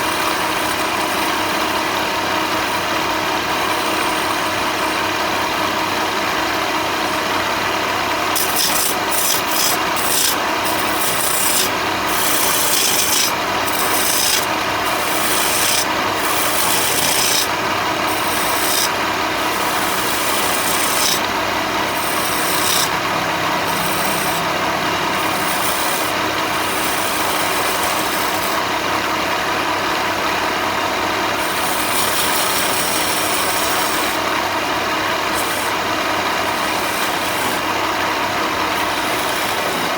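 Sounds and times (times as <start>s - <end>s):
sander grinding wood: 0.0s - 39.9s
power tool motor hum: 6.3s - 39.9s.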